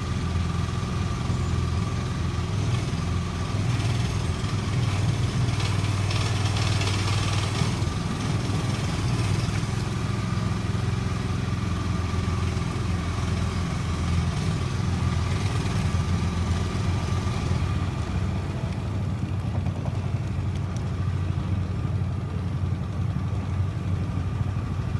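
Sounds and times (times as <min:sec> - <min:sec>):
engine running steadily: 0:00.0 - 0:24.9.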